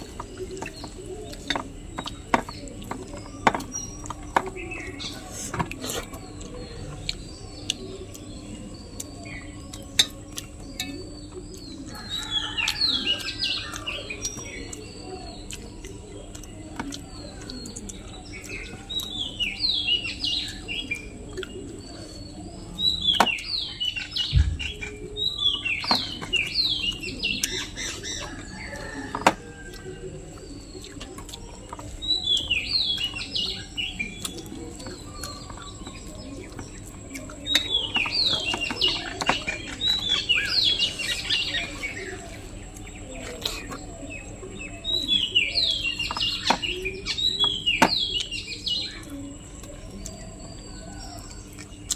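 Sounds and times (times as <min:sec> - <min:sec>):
birds chirping falling notes: 0:00.0 - 0:51.9.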